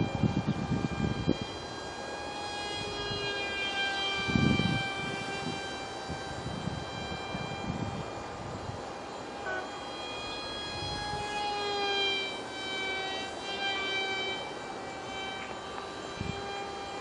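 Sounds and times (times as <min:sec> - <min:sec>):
wind on microphone: 0:00.0 - 0:11.8, 0:12.9 - 0:17.0
propeller motor whining: 0:00.0 - 0:17.0.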